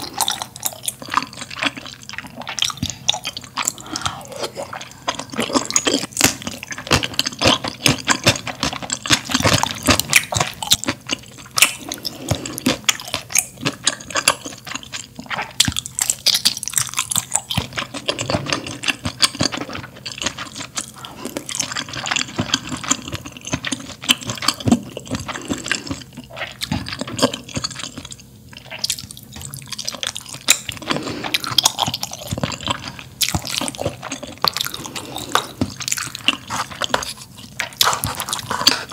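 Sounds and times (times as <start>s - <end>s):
wet chewing: 0.0s - 38.9s.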